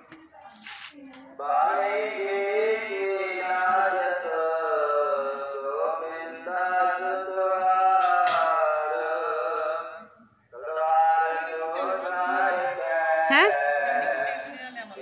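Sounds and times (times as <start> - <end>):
person chanting: 1.4 - 15.0.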